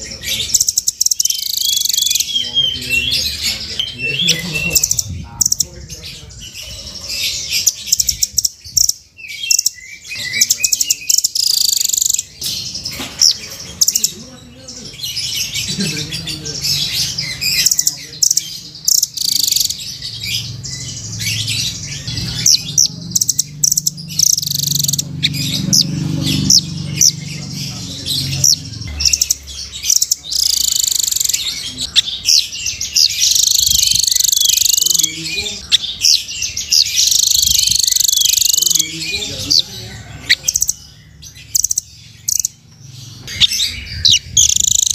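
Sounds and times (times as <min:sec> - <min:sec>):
nuthatch chirps and trills: 0:00.0 - 0:44.9.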